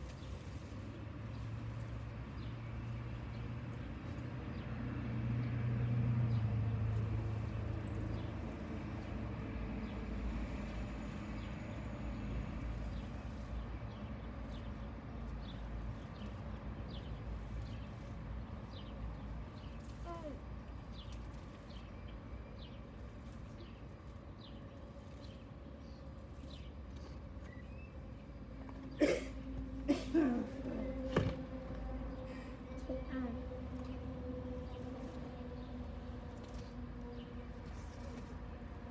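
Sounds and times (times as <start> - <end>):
low engine hum: 0.0 - 38.9.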